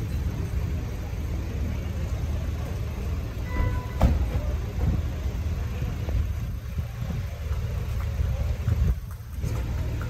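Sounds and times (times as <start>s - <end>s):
low rumble of street traffic: 0.0s - 10.0s.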